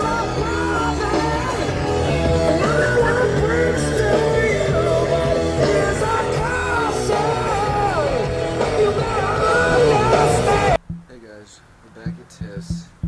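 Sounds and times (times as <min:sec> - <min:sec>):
rock song with singing: 0:00.0 - 0:10.8.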